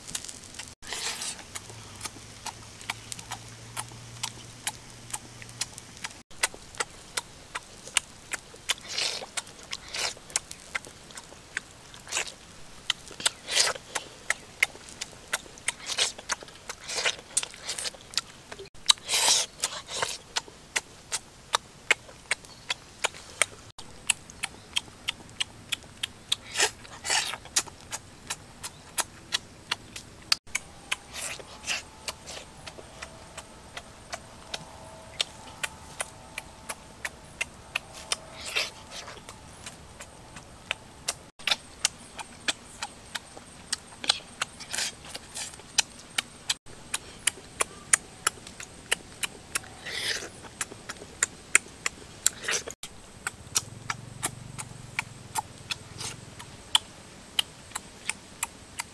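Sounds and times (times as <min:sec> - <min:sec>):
lip-smacking and chewing: 0:00.0 - 0:58.9.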